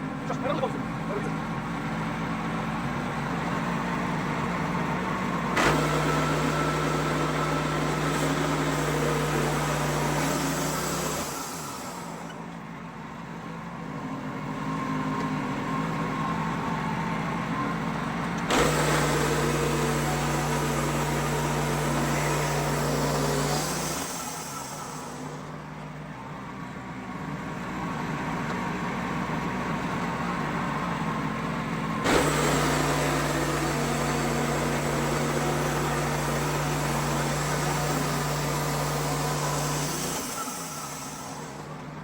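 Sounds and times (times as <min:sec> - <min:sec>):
sawmill running: 0:00.0 - 0:42.0.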